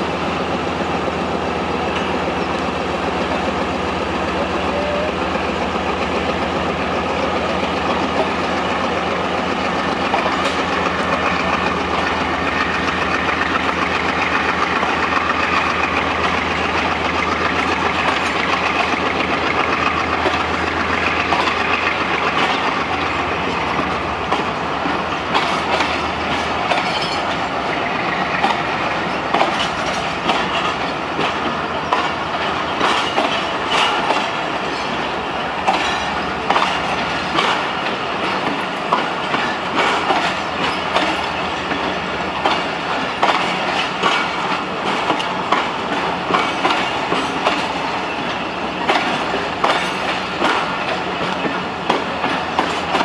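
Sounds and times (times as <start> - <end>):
diesel locomotive hum: 0.0 - 53.0
train wheels clattering: 0.0 - 53.0.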